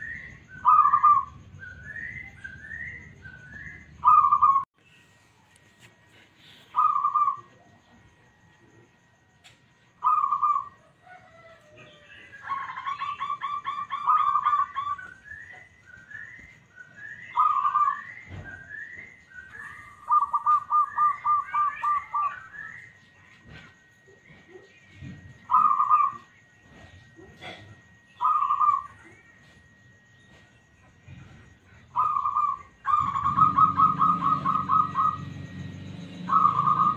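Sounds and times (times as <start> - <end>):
dove cooing: 0.0 - 4.7, 6.4 - 8.0, 10.0 - 29.6, 31.1 - 36.9
high rising bird chirps: 0.0 - 5.5, 6.5 - 8.0, 9.8 - 10.8, 11.9 - 27.1, 27.8 - 36.9.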